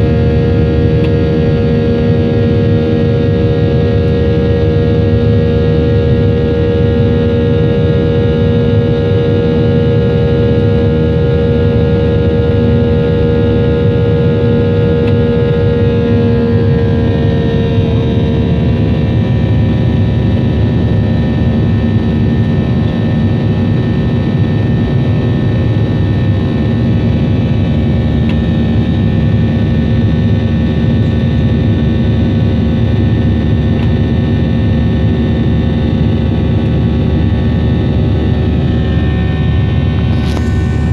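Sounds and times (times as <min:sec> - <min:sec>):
jet engine drone in cabin: 0:00.0 - 0:40.9.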